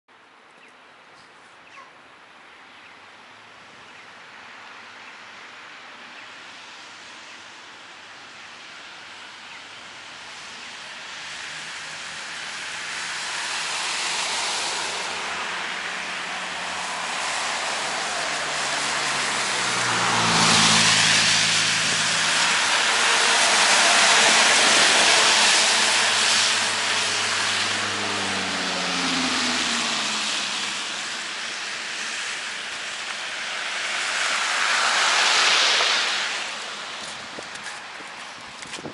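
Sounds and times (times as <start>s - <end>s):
vehicles passing on wet road: 2.0s - 38.9s.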